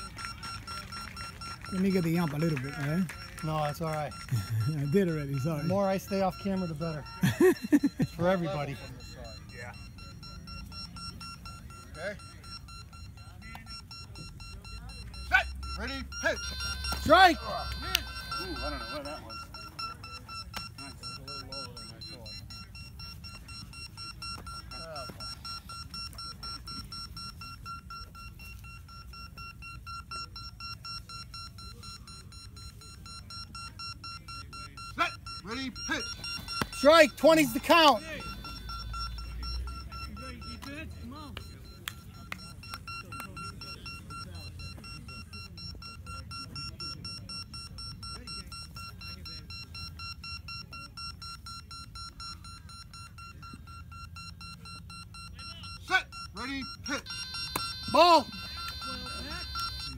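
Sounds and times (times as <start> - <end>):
rapid short high beeps: 0.0 - 59.9.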